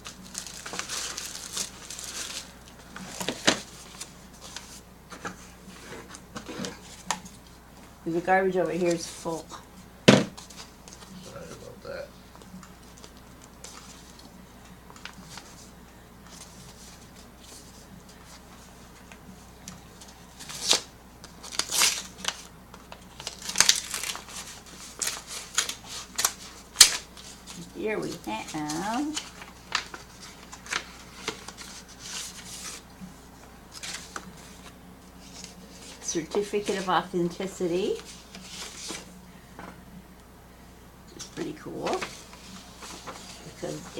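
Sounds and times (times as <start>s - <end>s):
paper and plastic rustling: 0.0s - 7.5s, 10.2s - 11.7s, 12.4s - 37.1s, 37.8s - 39.1s, 41.2s - 43.9s.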